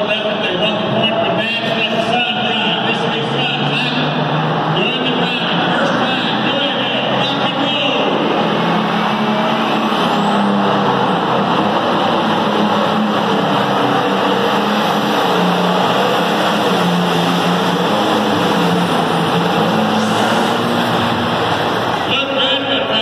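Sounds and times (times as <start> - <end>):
tractor engine at high revs: 1.7 - 23.0.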